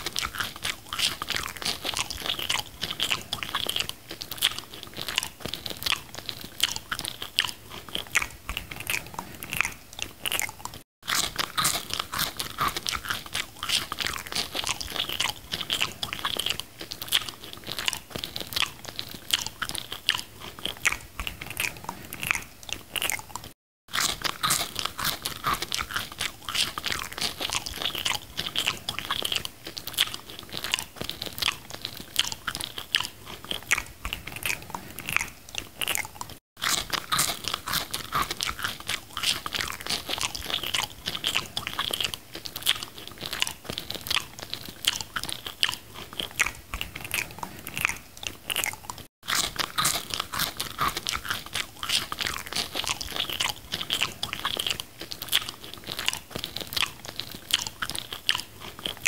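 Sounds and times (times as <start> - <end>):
crunching and wet chewing: 0.0 - 59.0.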